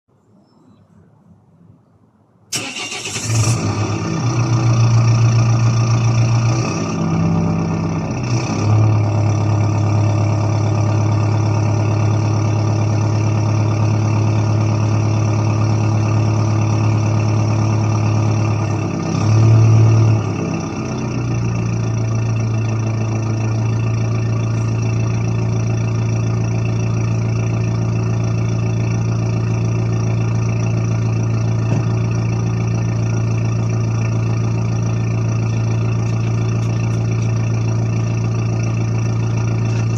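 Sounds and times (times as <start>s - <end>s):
diesel engine starting and idling: 2.5s - 39.9s.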